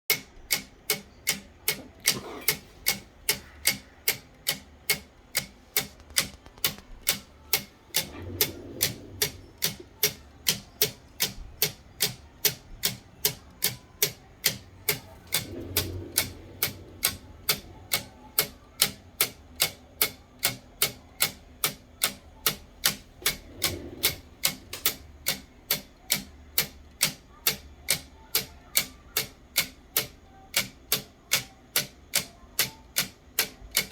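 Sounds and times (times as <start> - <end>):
plastic escapement ticking: 0.1 - 33.9.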